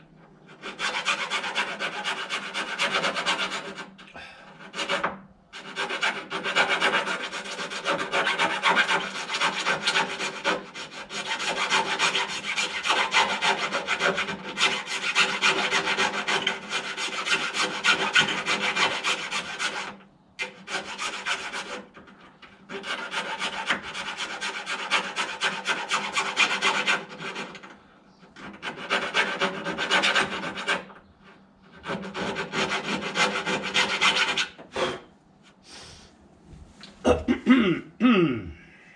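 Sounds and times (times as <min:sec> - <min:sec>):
hand file rasping on metal: 0:00.5 - 0:27.7, 0:28.4 - 0:31.0, 0:31.7 - 0:35.1.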